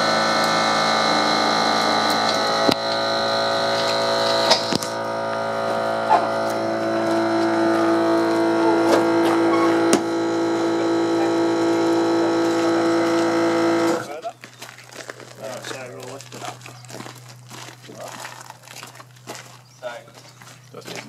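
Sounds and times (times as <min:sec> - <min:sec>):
motor buzzing hum: 0:00.0 - 0:20.8.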